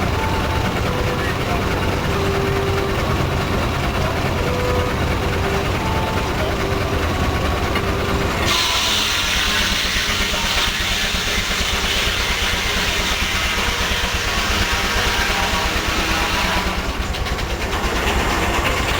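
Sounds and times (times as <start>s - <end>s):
heavy engine rumbling: 0.0s - 18.9s.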